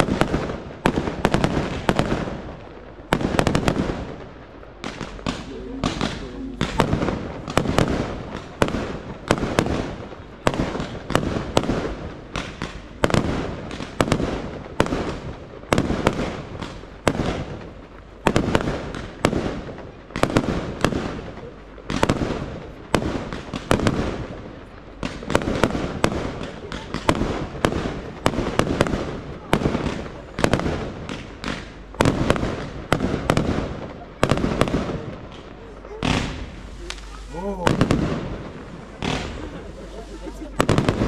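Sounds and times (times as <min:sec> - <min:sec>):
fireworks bursting with echo: 0:00.0 - 0:41.0.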